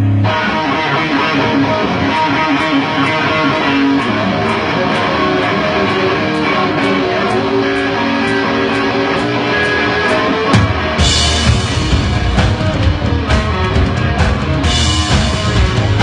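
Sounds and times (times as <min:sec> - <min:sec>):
electric guitar strumming: 0:00.0 - 0:16.0.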